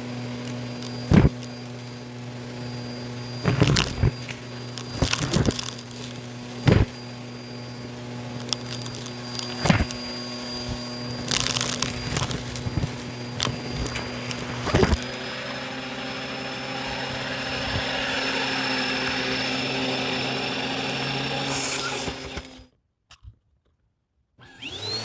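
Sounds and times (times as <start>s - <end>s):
vacuum cleaner motor hum: 0.0s - 22.7s, 24.4s - 25.0s
debris rattling up vacuum hose: 0.2s - 20.4s.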